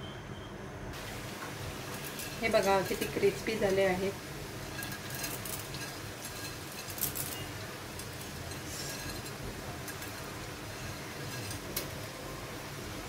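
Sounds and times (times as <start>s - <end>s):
fried noodles crackling: 1.0s - 13.0s.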